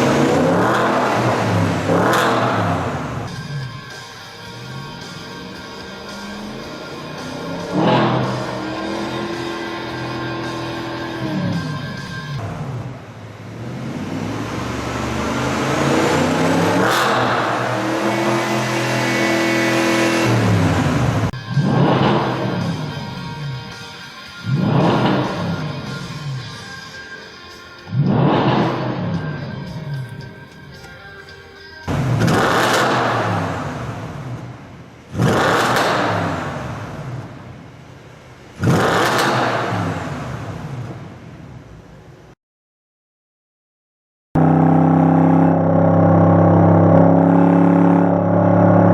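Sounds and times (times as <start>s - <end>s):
car engine revving: 0.0s - 23.5s, 24.4s - 26.6s, 27.9s - 30.3s, 31.9s - 41.3s, 44.4s - 48.9s.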